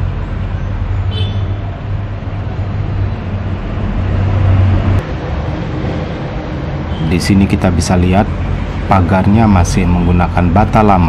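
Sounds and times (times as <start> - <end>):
road noise: 0.0 - 11.0
vehicle engine humming: 0.0 - 11.0.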